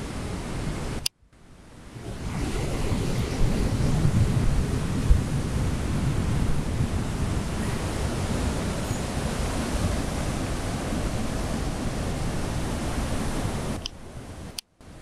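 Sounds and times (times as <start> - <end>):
wind rumbling on microphone: 0.0 - 15.0
heavy surf breaking: 1.8 - 14.6.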